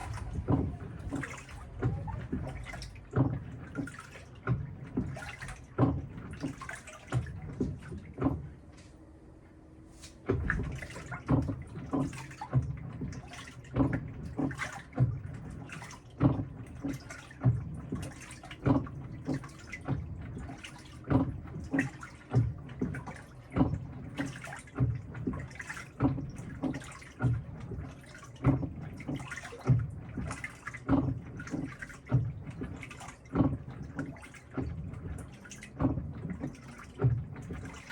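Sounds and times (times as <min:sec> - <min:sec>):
washing machine water sloshing: 0:00.0 - 0:37.9.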